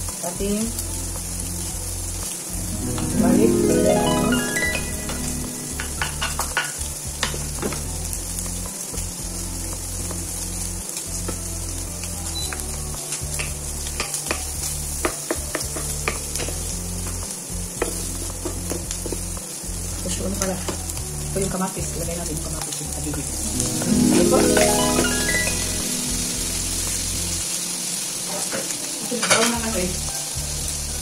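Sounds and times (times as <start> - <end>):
onion sizzling in hot oil: 0.0 - 31.0.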